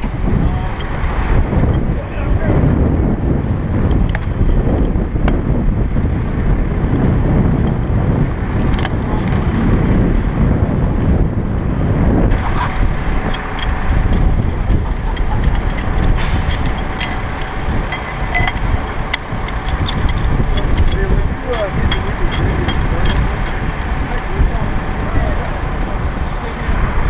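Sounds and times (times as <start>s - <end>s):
steady whine: 0.0s - 27.0s
truck engine and hydraulics: 0.0s - 27.0s.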